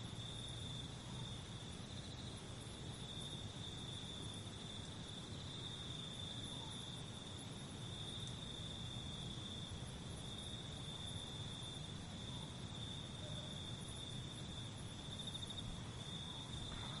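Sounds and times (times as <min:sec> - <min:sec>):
crickets chirping: 0:00.0 - 0:17.0
faint low background noise: 0:00.0 - 0:17.0.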